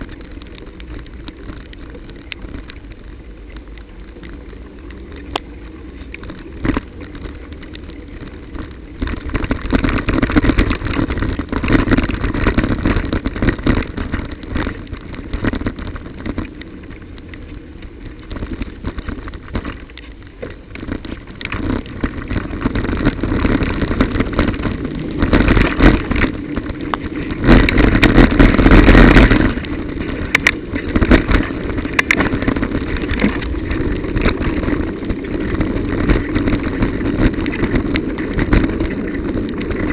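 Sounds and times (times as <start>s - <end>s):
bicycle tyre and road noise: 0.0s - 39.9s
rain: 0.0s - 39.9s
bike rattling and knocking: 6.2s - 17.3s, 18.2s - 39.9s.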